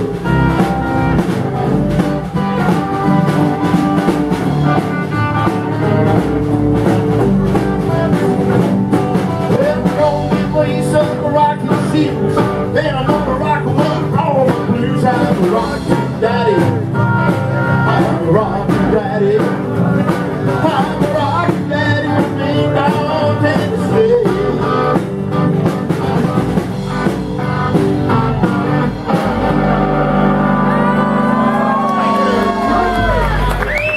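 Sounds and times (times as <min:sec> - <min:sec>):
rockabilly band playing: 0:00.0 - 0:33.9.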